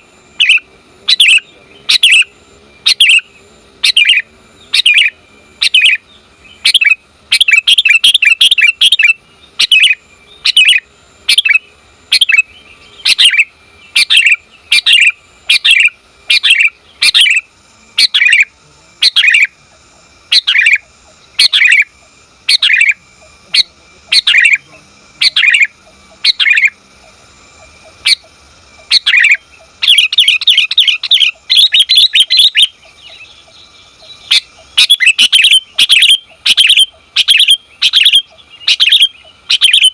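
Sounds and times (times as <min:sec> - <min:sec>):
bird chirping calls: 0:00.0 - 0:39.9
bird rapid chattering: 0:00.4 - 0:02.3, 0:02.9 - 0:06.0, 0:06.6 - 0:19.6, 0:20.3 - 0:39.9.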